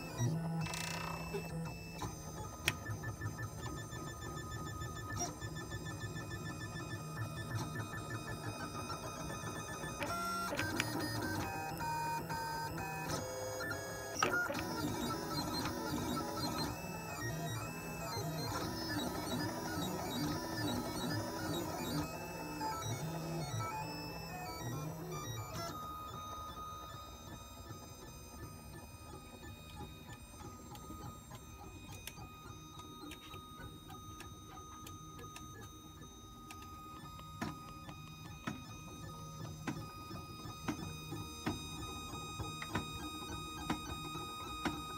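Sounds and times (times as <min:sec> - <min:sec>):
stepper motors whining: 0:00.1 - 0:44.9.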